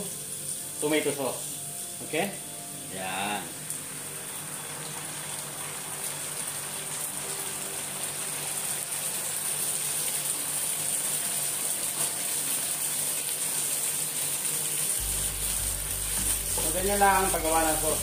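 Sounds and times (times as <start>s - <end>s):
sauce sizzling in a frying pan: 0.0s - 18.0s.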